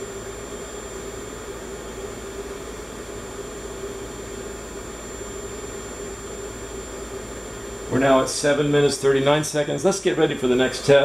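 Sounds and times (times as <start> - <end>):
ozone generator humming: 0.0 - 11.0.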